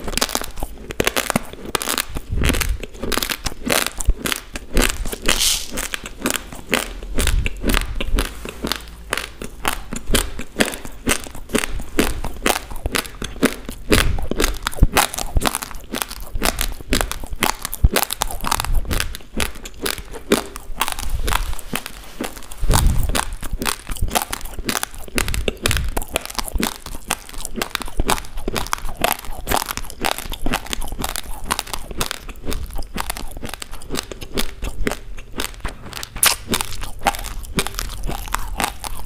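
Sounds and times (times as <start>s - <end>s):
raw rice crunched by chewing: 0.0s - 39.0s.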